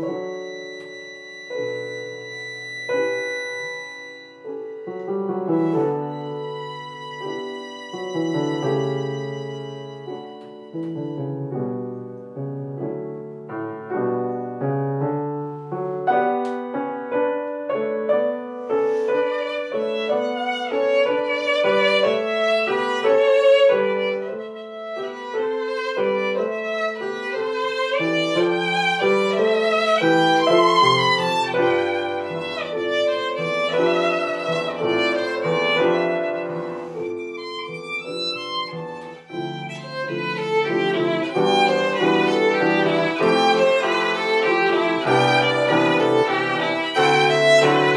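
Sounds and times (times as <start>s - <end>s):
violin melody with vibrato: 0.0s - 11.8s, 18.1s - 47.9s
piano accompaniment: 0.0s - 47.9s.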